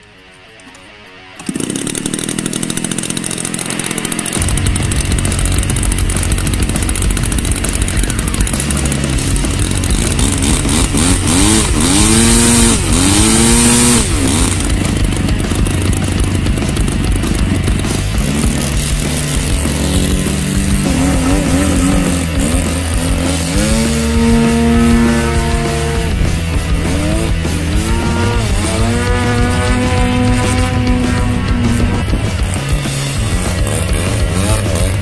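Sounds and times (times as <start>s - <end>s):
model airplane engine running: 1.4s - 35.0s.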